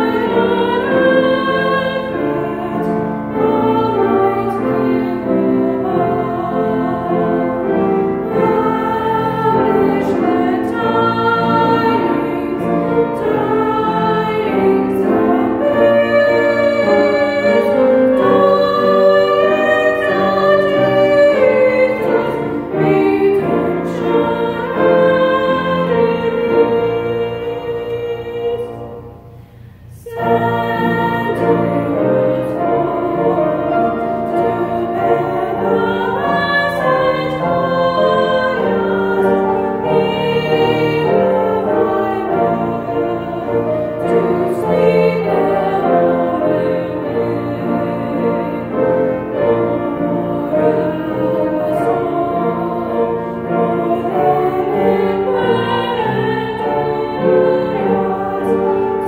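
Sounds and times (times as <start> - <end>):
keyboard accompaniment: 0.0 - 59.0
women singing a hymn: 0.0 - 59.0.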